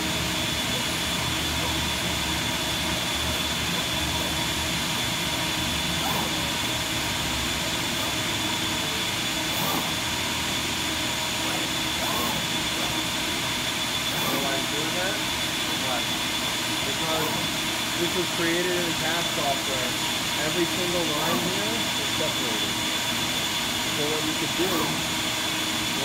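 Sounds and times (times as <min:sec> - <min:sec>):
cutting machine running: 0:00.0 - 0:26.0
high steady machine whine: 0:00.0 - 0:26.0.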